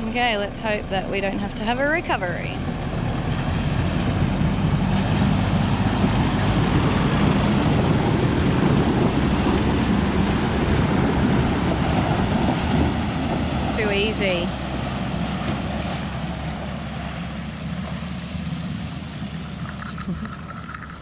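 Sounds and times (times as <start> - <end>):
engine running under load: 0.0 - 21.0
water splashing around wheels: 0.0 - 21.0.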